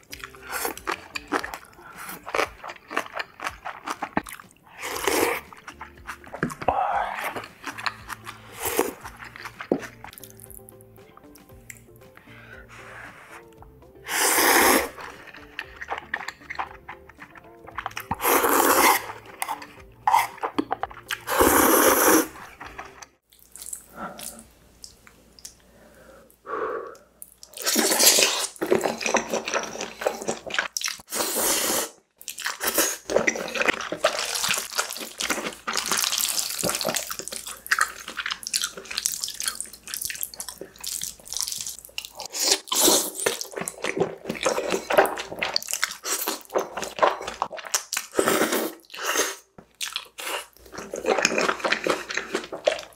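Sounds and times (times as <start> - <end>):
chewing: 0.0 - 25.6, 27.2 - 31.2, 32.2 - 52.9
wet noodle slurping: 0.2 - 10.1, 12.8 - 23.1, 27.6 - 52.9.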